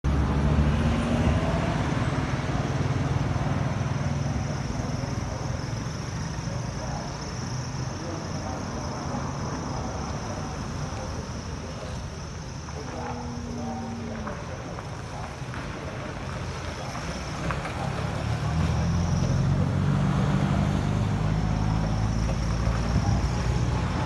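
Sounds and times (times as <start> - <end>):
traffic: 0.0 - 24.0
vehicle engine running: 0.0 - 24.0
indistinct voices: 0.9 - 24.0.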